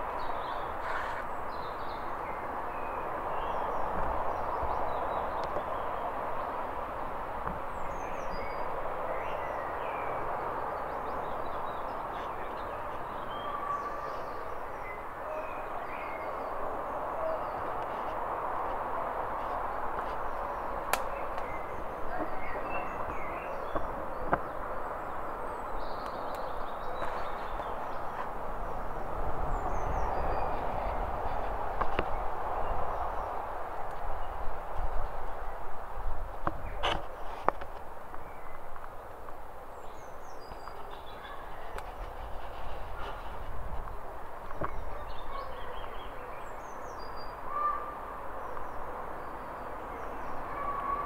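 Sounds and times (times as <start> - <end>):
small birds chirping: 0.0 - 34.5, 36.5 - 51.0
outdoor ambience rush: 0.0 - 51.0.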